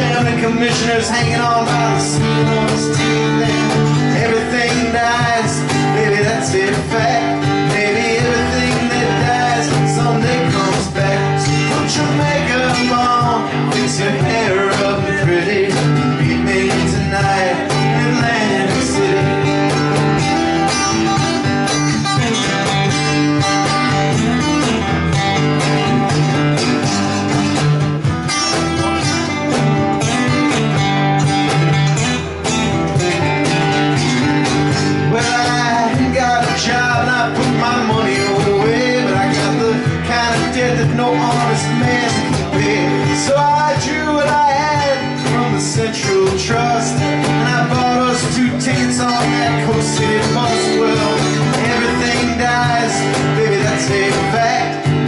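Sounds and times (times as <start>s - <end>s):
acoustic guitars playing: 0.0s - 55.0s
cajon beat: 0.0s - 55.0s.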